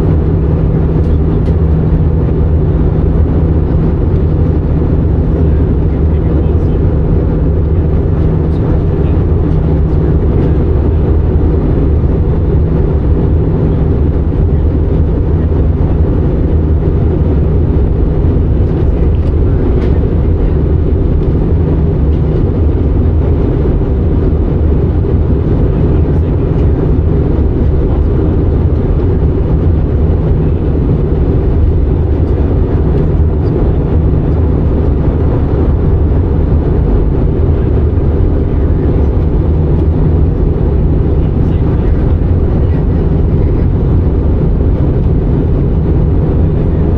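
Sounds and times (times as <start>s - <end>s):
airliner cabin drone: 0.0s - 46.9s.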